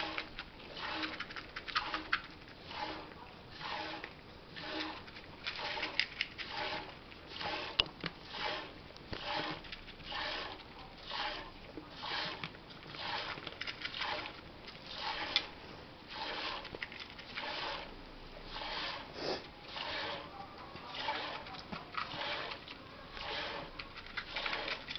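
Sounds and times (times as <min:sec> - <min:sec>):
milk squirting into a pail: 0:00.0 - 0:20.3, 0:20.9 - 0:24.9.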